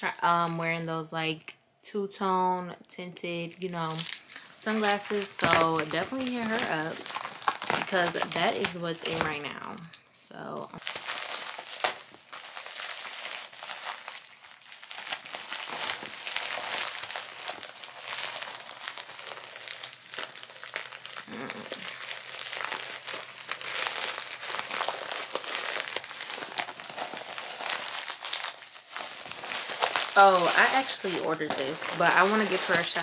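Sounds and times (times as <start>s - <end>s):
plastic mailer crinkling: 3.6s - 10.0s, 10.8s - 33.0s.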